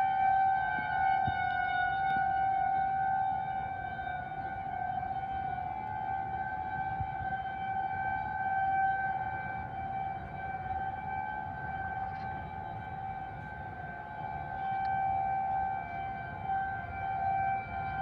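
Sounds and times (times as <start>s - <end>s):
distant warning siren: 0.0s - 18.0s.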